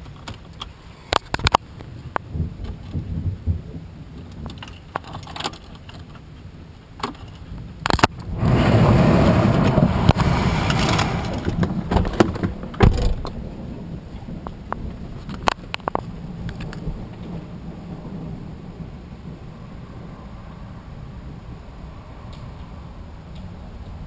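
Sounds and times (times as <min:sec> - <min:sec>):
thunder crack and rumble: 0:01.4 - 0:05.4, 0:07.5 - 0:24.0.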